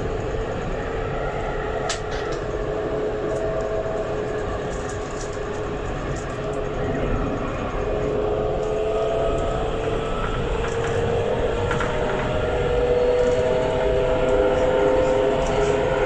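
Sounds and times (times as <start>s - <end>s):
traction motor whine: 0.0s - 16.0s
tram wheels rumbling on rail: 0.0s - 16.0s.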